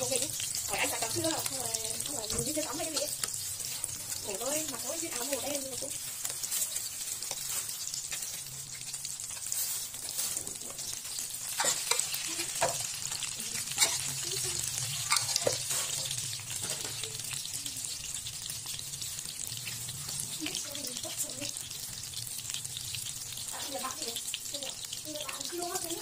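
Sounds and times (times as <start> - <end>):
spring rolls sizzling in oil: 0.0 - 26.0.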